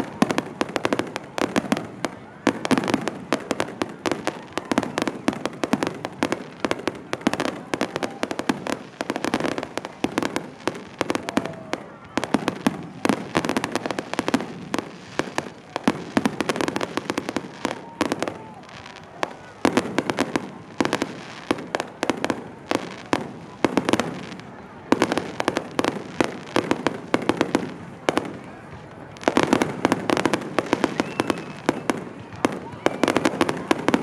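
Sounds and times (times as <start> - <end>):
fireworks bangs and cracks: 0.0 - 34.0.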